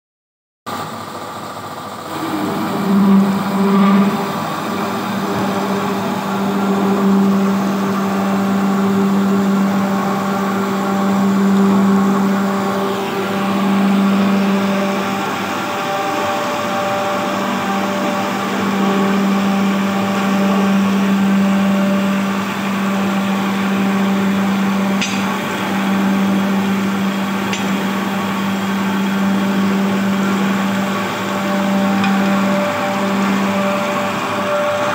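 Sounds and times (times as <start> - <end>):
band saw cutting metal pipes: 2.0 - 34.9.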